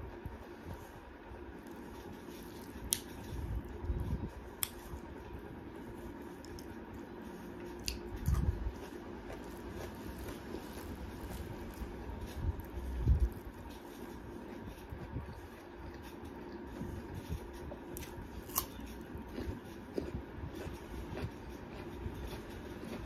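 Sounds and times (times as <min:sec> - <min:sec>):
faint steady hum: 0:00.0 - 0:23.0
person chewing: 0:01.6 - 0:23.0.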